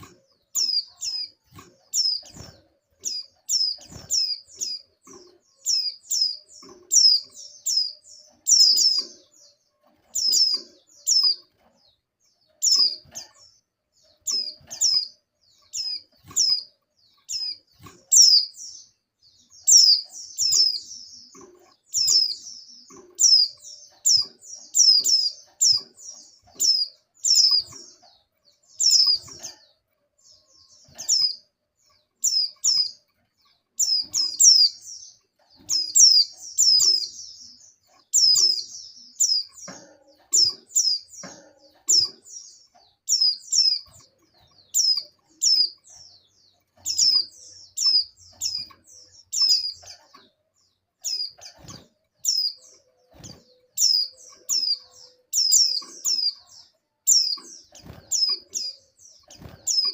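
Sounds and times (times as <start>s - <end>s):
bird high downward chirps: 0.0s - 13.4s, 14.1s - 29.7s, 30.3s - 59.9s.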